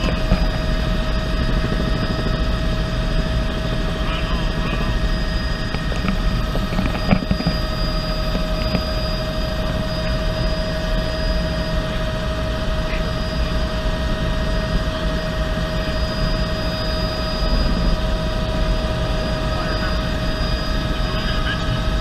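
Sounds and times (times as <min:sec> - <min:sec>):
helicopter rotor rumble: 0:00.0 - 0:22.0
helicopter turbine whine: 0:00.0 - 0:22.0.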